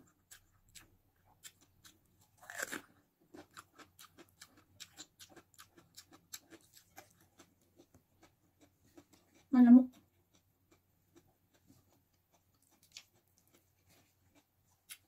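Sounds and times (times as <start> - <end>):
person crunchy chewing: 0.1 - 15.0.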